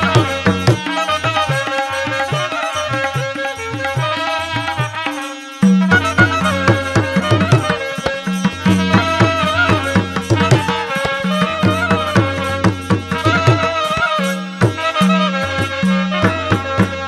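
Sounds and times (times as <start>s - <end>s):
hand drum beats: 0.0s - 17.0s
lead instrument bending melody: 0.0s - 17.0s.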